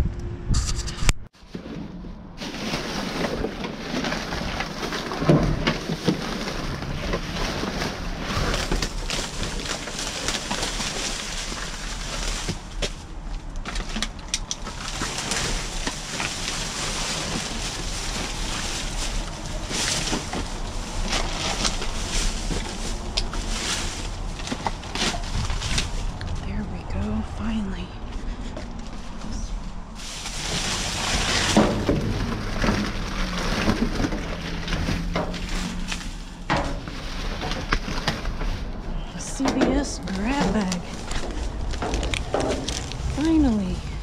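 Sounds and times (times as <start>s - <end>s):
plastic bags crinkling: 2.4s - 26.4s, 28.4s - 44.0s.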